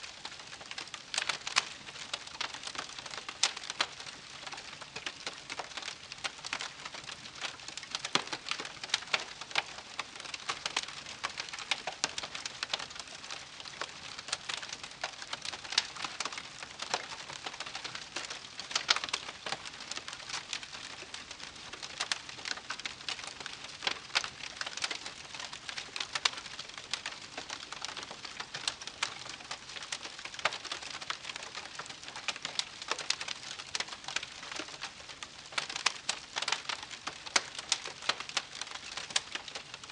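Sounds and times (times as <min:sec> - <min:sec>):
campfire crackling: 0:00.1 - 0:39.9
fire popping and snapping: 0:00.1 - 0:39.9.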